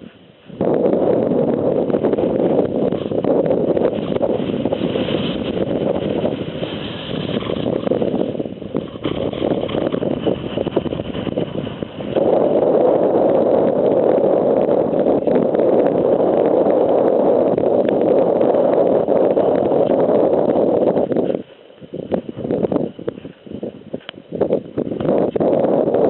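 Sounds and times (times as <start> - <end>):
wind blowing across microphone: 0.0 - 26.0.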